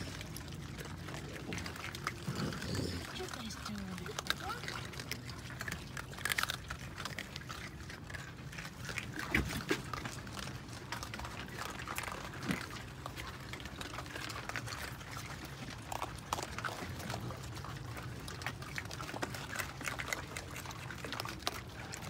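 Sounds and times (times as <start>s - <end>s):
animals crunching dry kibble: 0.0s - 22.0s.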